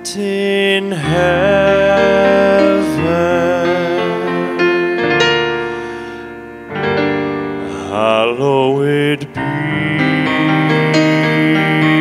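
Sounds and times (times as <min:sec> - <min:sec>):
person singing a long note: 0:00.0 - 0:06.0, 0:07.6 - 0:12.0
piano chords: 0:00.0 - 0:12.0.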